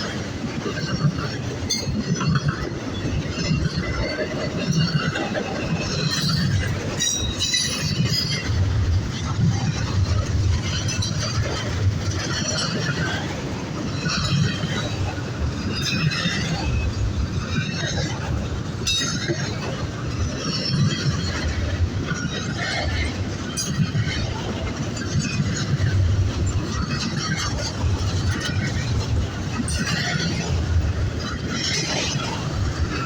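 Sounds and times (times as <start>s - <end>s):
freight train rumbling: 0.0s - 33.0s
train wheel squeal and clatter: 0.0s - 33.0s.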